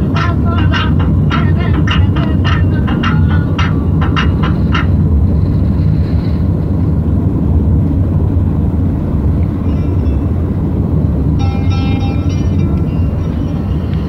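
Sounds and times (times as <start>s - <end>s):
car driving on highway: 0.0s - 14.0s
faint steady tones: 0.0s - 14.0s.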